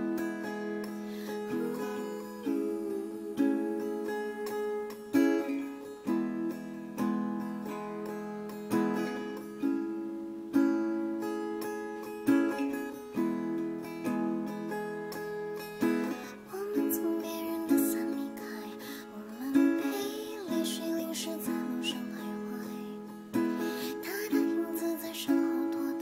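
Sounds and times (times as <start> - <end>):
acoustic guitar chords plucked: 0.0 - 26.0.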